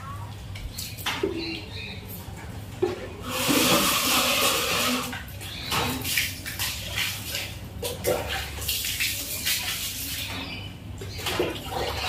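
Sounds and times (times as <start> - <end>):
water splashing on a floor: 0.2 - 12.0.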